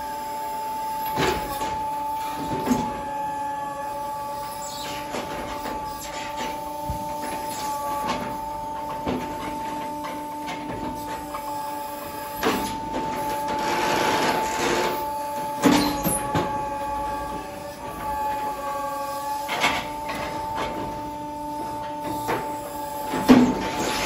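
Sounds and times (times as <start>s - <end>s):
hydraulic machinery whine: 0.0s - 24.0s.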